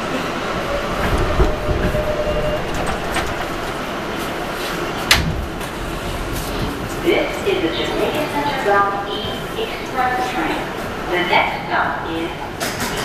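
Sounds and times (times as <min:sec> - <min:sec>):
subway car rumbling on rails: 0:00.0 - 0:13.0.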